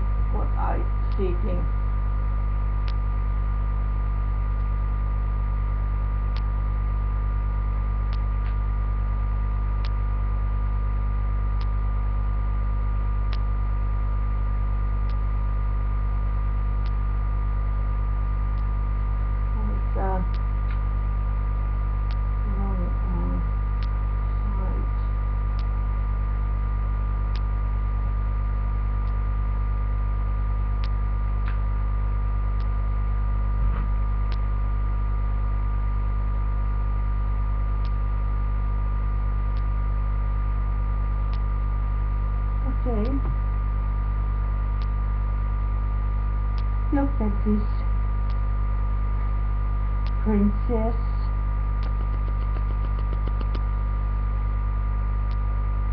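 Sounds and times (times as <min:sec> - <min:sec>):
electrical mains hum: 0:00.0 - 0:55.9.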